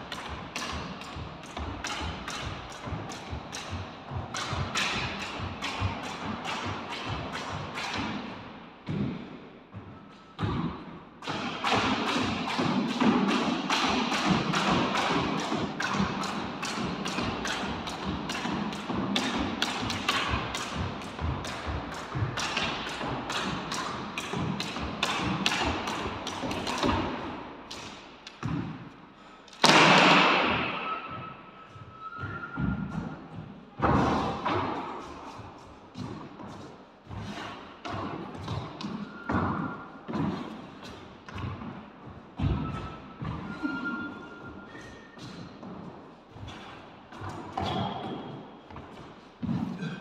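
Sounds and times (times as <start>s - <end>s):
footfalls on wooden court floor: 0.0s - 12.0s, 14.2s - 29.0s, 29.6s - 50.0s.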